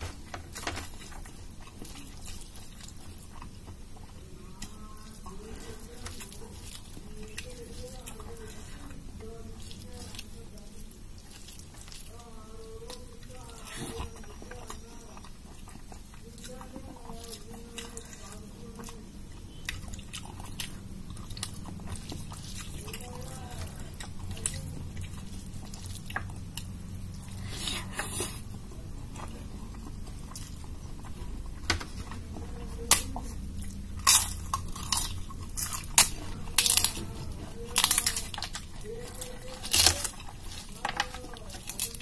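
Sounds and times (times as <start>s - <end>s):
chewing food: 0.0s - 42.0s
crisp wafer crunching: 0.0s - 42.0s.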